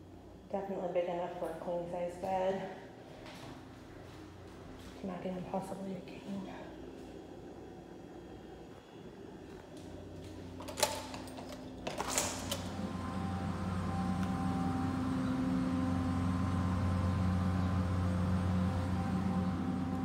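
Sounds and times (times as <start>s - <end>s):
low machine hum with whine: 0.0s - 20.0s.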